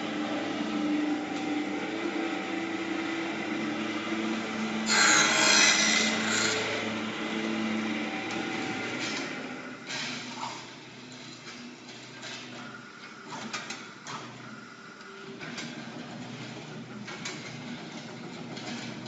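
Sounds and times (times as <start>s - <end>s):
bending machine motor whine: 0.0s - 19.0s.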